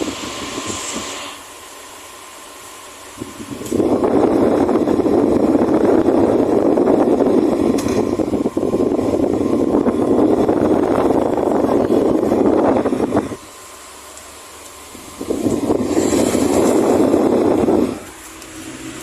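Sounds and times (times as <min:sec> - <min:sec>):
fan airflow rushing: 0:00.0 - 0:19.0.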